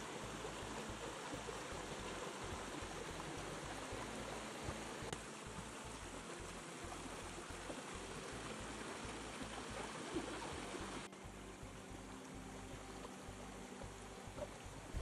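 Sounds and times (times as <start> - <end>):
choppy low rumbling: 0.0 - 15.0.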